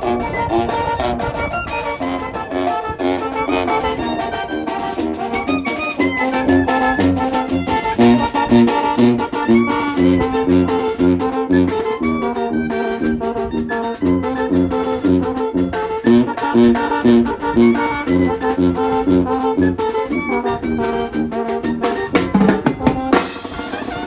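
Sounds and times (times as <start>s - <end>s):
brass band playing: 0.0s - 24.0s
steady drum beat: 0.0s - 24.0s.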